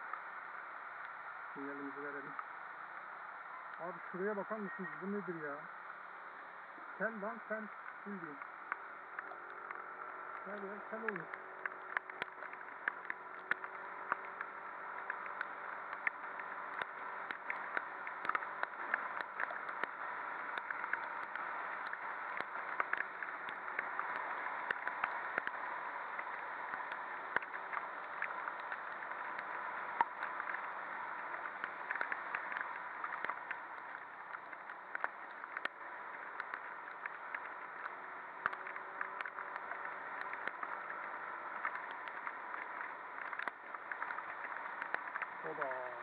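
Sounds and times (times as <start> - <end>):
raindrops ticking on camera: 0.0 - 46.0
scooter riding in heavy rain: 0.0 - 46.0.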